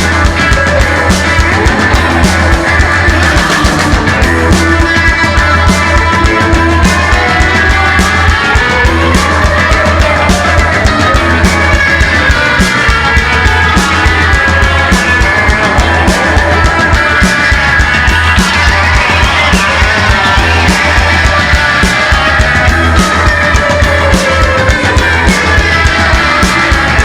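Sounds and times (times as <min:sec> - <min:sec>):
drum hits: 0:00.0 - 0:27.0
rock band playing: 0:00.0 - 0:27.0.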